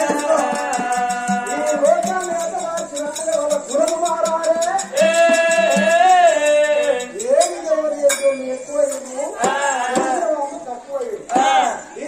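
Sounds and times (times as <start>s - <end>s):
sharp percussion strokes: 0.0s - 10.4s.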